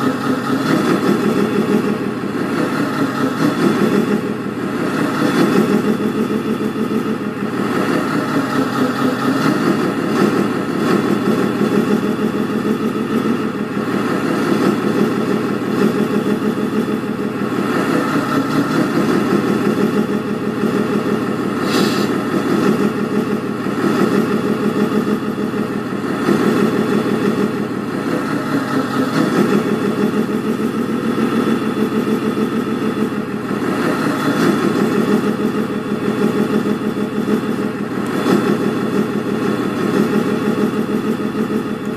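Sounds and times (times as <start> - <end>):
simulated diesel engine revving: 0.0 - 41.9.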